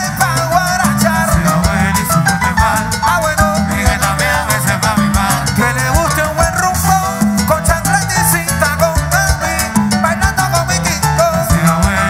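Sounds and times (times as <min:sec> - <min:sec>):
conga drums: 0:00.0 - 0:12.0
keyboard: 0:00.0 - 0:12.0
live salsa band playing: 0:00.0 - 0:12.0.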